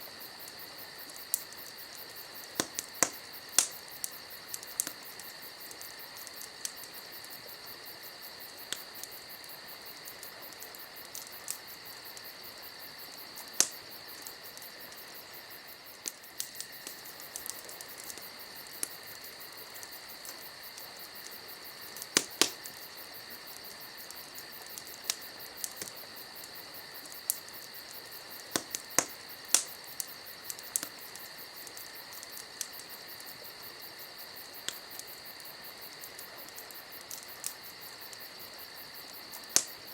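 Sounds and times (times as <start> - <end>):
insect chorus: 0.0 - 39.9
campfire crackling and popping: 0.1 - 39.9.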